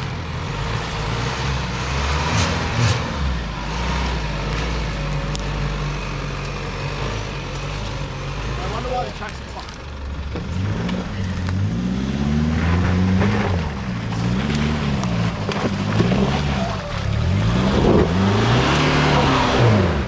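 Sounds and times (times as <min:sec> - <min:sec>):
engine revving under load: 0:00.0 - 0:20.0.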